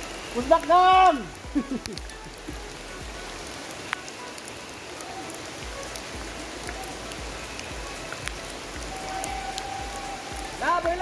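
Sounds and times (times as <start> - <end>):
raindrop ticks: 0.0 - 11.0
steady rain falling: 0.0 - 11.0.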